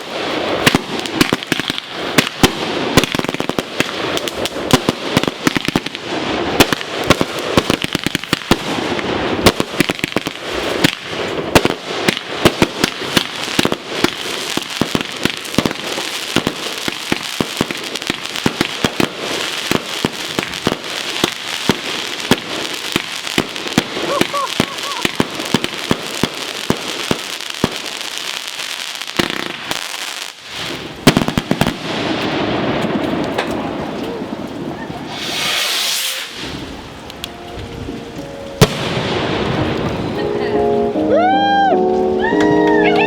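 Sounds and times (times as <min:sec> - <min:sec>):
fireworks popping and crackling: 0:00.0 - 0:40.5.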